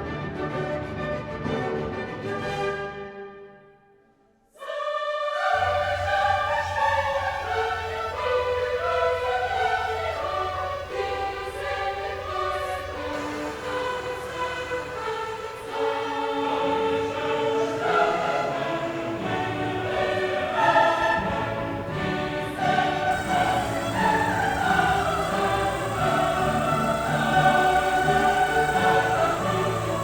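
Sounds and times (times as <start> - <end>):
choir singing with orchestra: 0.0 - 3.5, 4.5 - 30.0.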